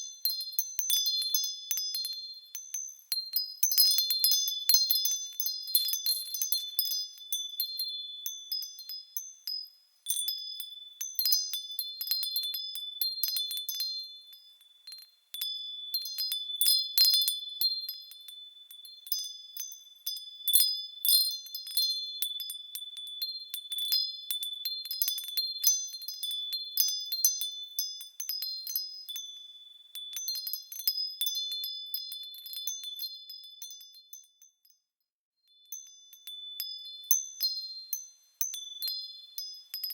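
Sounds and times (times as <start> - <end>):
wind chimes tinkling: 0.0 - 39.9.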